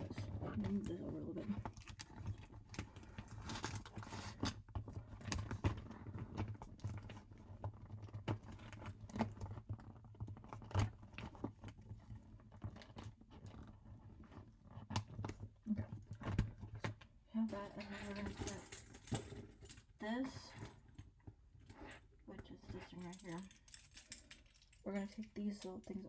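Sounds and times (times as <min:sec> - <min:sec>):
purse contents rustling and clicking: 0:00.0 - 0:26.0.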